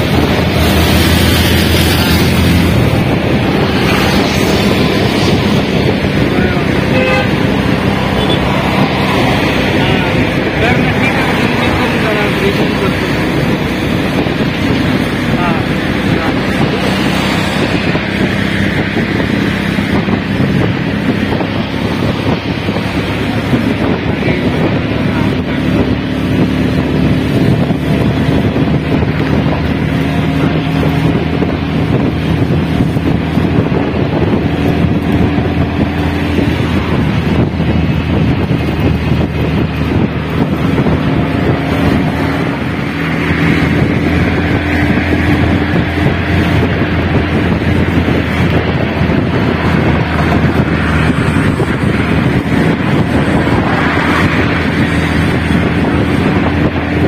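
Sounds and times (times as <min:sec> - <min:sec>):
vehicle engine and road noise: 0:00.0 - 0:57.0
wind rushing over microphone: 0:00.0 - 0:57.0.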